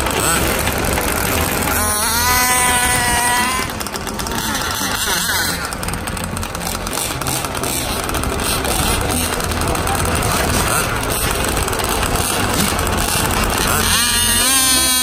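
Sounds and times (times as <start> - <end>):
background din: 0.0 - 15.0
small motor whine: 0.0 - 15.0.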